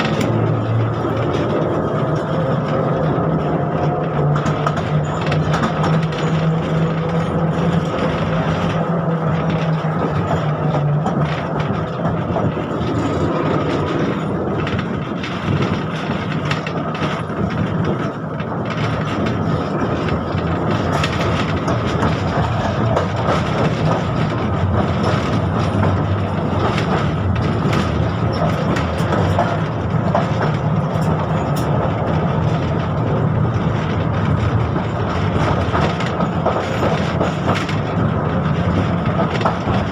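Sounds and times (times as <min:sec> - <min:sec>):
tram wheels rumbling on rail: 0:00.0 - 0:39.9.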